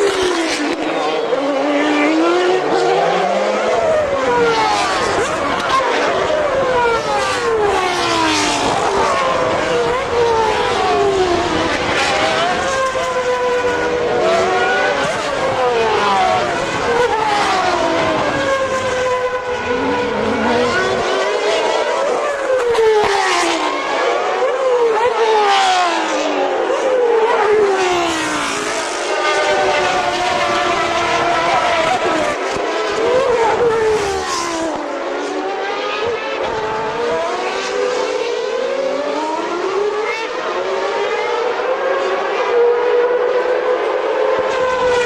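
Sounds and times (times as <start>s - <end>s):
racing car engines passing: 0.0s - 45.0s.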